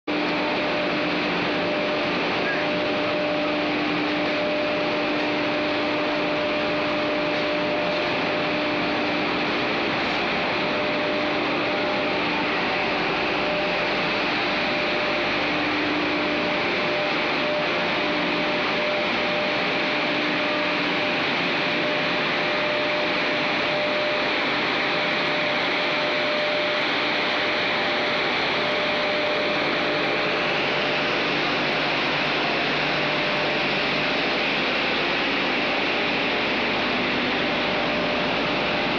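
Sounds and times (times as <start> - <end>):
constant hum: 0.1 - 38.9
rotary dryer rushing: 0.1 - 38.9.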